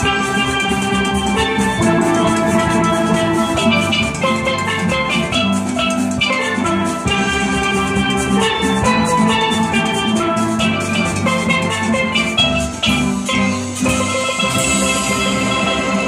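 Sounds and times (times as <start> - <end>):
steady drum beat: 0.0 - 15.7
steel pans playing tune: 0.0 - 16.0.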